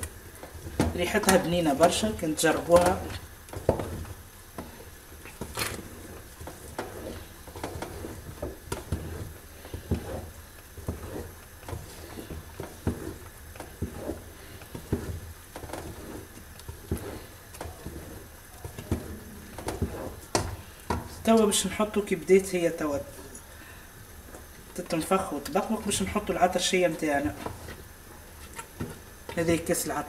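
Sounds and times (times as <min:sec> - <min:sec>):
wooden spoon scraping a pot: 0:00.0 - 0:21.4, 0:24.7 - 0:29.9
paste sizzling and bubbling: 0:00.0 - 0:30.0.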